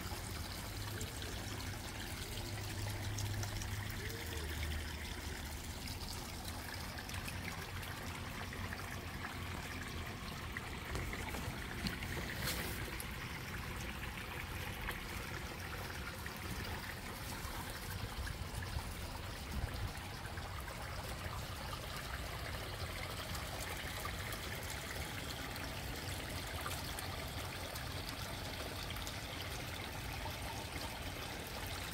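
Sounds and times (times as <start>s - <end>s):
water trickling over stones: 0.0s - 31.9s.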